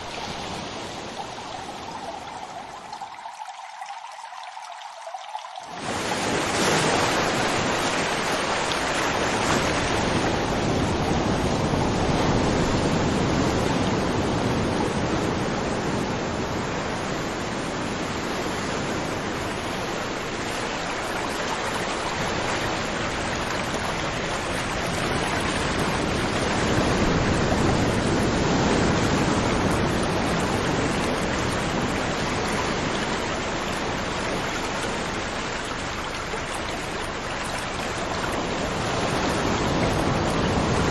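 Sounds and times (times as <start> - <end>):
river water rushing over rocks: 0.0 - 4.5, 5.2 - 40.9.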